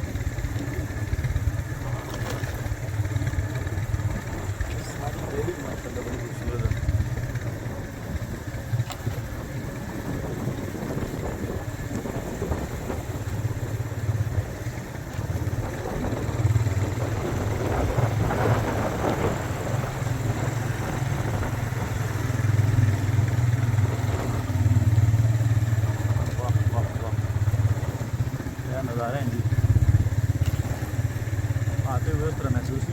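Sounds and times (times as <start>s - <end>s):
road noise: 0.0s - 32.9s
vehicle engine droning: 0.0s - 32.9s.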